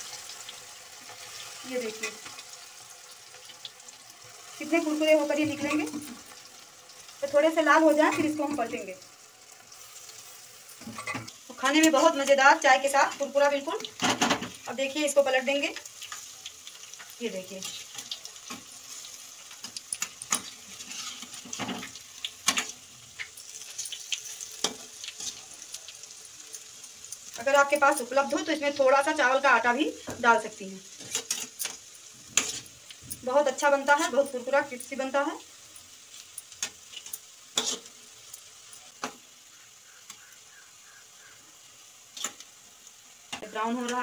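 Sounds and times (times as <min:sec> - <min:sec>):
pakoras deep-frying in oil: 0:00.0 - 0:44.0.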